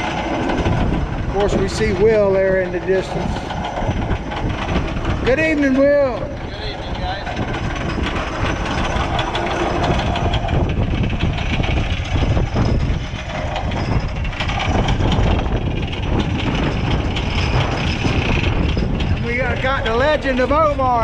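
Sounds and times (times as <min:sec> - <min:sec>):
boat noise: 0:00.0 - 0:21.0
wind buffeting microphone: 0:00.0 - 0:21.0.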